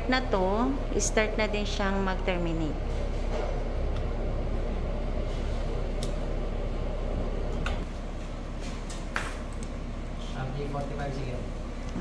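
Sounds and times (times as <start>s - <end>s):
mechanical hum and hiss: 0.0s - 12.0s.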